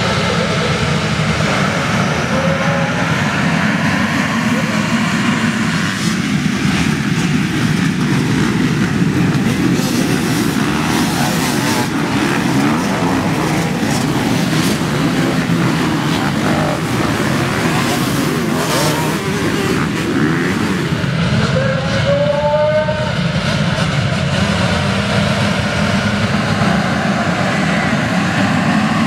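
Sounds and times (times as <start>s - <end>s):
motocross bikes accelerating: 0.0s - 22.4s, 23.0s - 29.0s.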